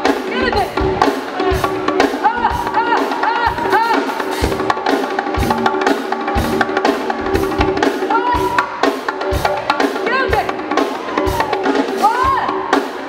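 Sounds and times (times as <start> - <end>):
r and b music with drum beat: 0.0 - 13.0.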